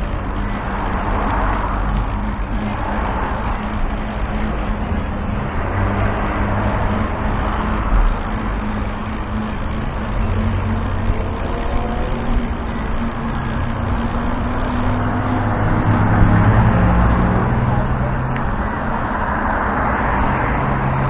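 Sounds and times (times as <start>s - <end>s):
road noise: 0.0s - 21.0s
vehicle engine drone: 0.0s - 21.0s.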